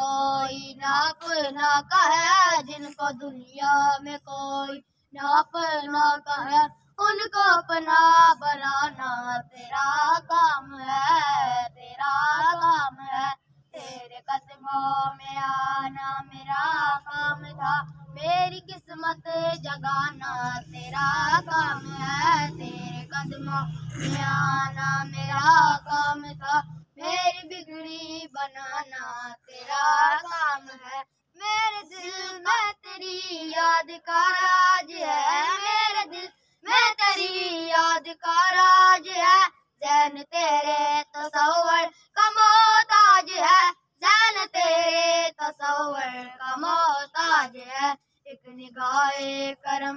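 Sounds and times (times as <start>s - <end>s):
person singing devotional song: 0.0s - 49.9s.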